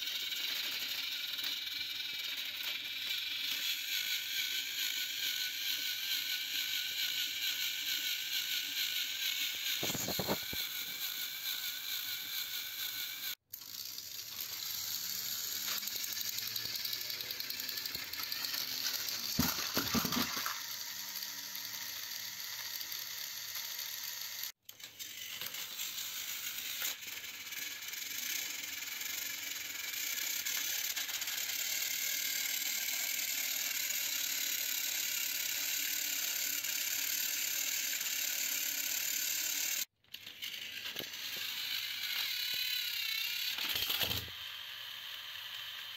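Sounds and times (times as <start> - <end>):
toy train motors whirring: 0.0 - 45.9.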